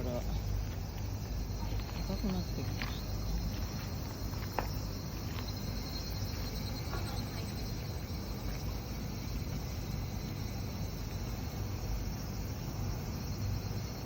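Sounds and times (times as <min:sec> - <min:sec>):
faint fire crackles: 0:00.0 - 0:13.3.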